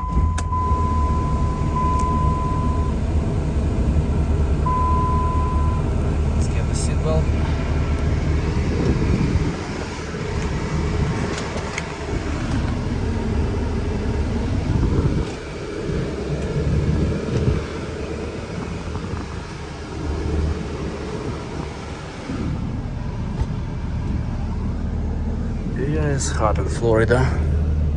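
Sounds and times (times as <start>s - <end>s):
diesel truck engine accelerating: 0.0s - 27.9s.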